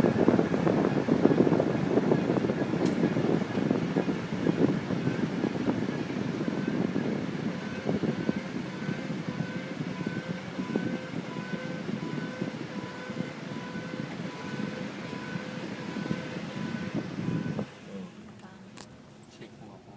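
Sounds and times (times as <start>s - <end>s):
pulsing wheel hum: 0.0s - 19.1s
road noise: 0.0s - 19.9s.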